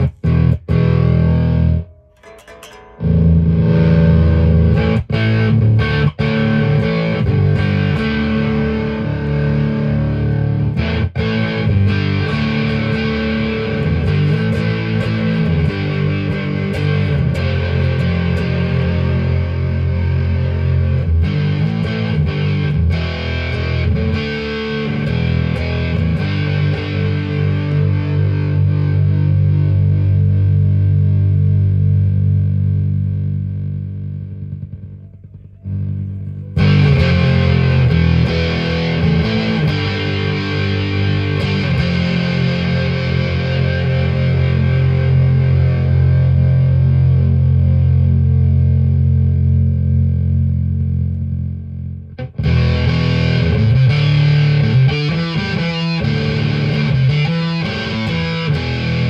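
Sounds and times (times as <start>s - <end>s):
fuzzed guitar chords: 0.0s - 59.0s.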